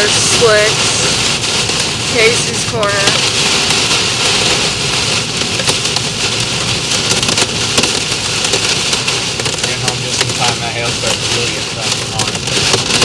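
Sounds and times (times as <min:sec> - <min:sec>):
hailstones ticking on roof: 0:00.0 - 0:13.0
heavy rain on car: 0:00.0 - 0:13.0.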